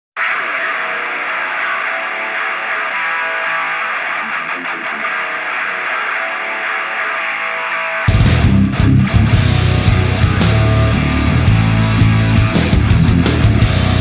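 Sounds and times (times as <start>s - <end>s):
thin rock guitar music: 0.2s - 14.0s.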